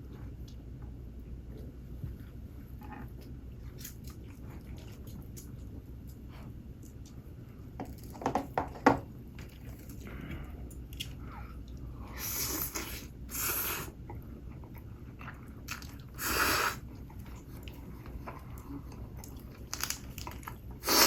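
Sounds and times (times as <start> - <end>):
soft chewing: 0.0 - 8.2, 9.2 - 20.9.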